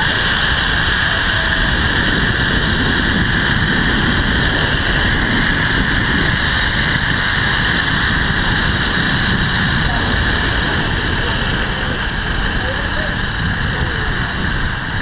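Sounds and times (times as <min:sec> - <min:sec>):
wind buffeting microphone: 0:00.0 - 0:15.0
zip line pulley whirring: 0:00.0 - 0:15.0.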